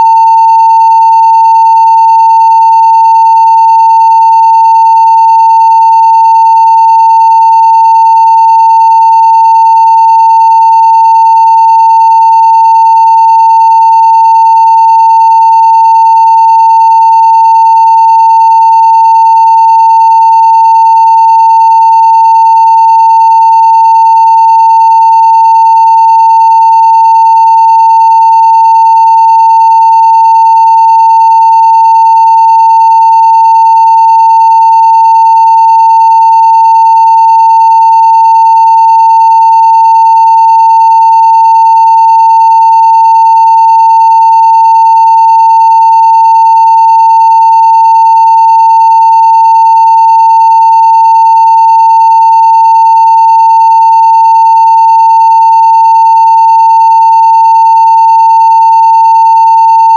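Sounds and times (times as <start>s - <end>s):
steady sine-wave test tone: 0.0s - 59.9s.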